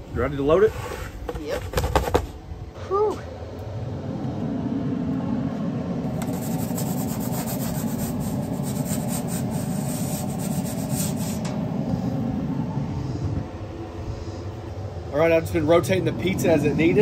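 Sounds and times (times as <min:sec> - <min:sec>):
fan whirring: 0:00.0 - 0:17.0.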